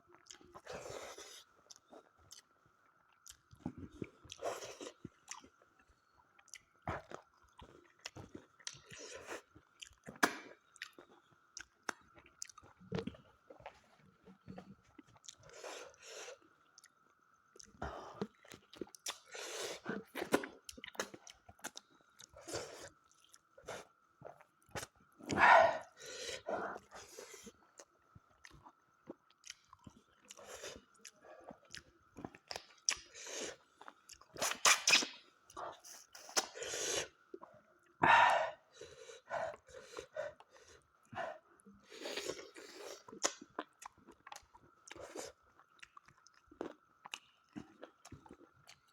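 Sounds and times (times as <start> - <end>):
chewing and crunching: 0.0 - 38.0, 38.8 - 48.9
faint steady high hum: 0.0 - 48.9.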